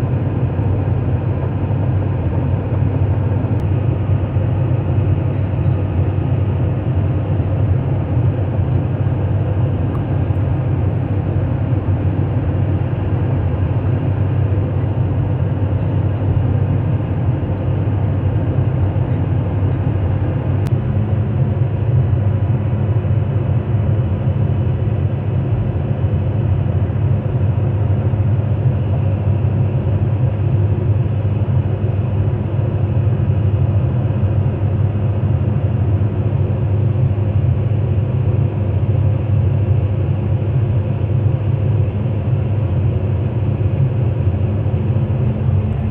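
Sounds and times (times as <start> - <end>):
diesel engine drone: 0.0 - 45.9.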